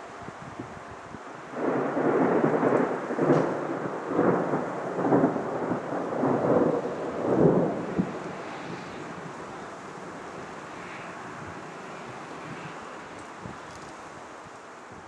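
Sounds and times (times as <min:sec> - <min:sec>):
thunder rumbling: 0:00.0 - 0:14.3.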